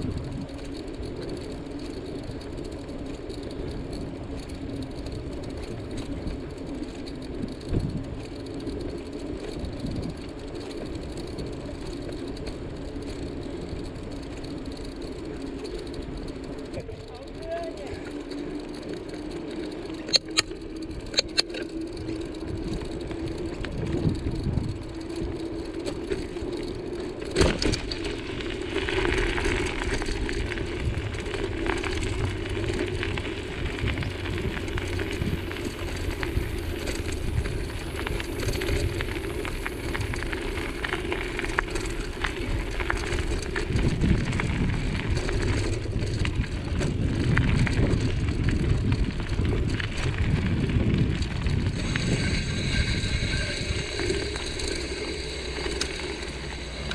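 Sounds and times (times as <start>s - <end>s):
bicycle tyres humming on road: 0.0s - 56.9s
bike clicks and knocks: 0.0s - 56.9s
tyres crunching on gravel: 0.0s - 56.9s.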